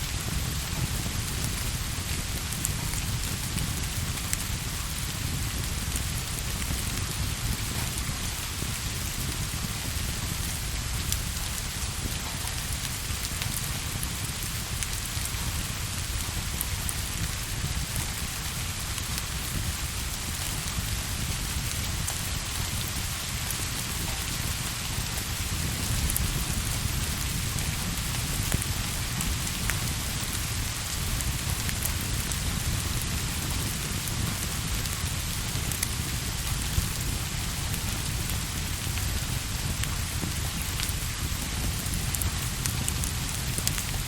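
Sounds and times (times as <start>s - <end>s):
steady rain tapping: 0.0s - 44.0s.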